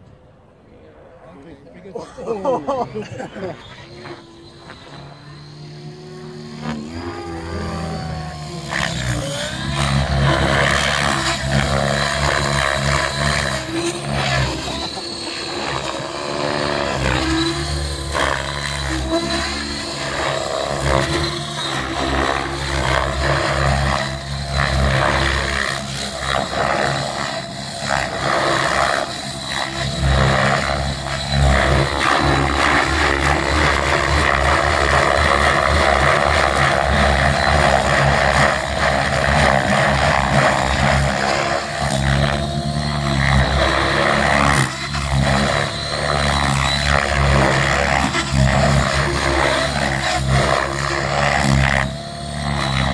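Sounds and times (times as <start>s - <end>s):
high whine of electric motor: 0.0s - 52.9s
rotor blades whooshing: 1.0s - 52.9s.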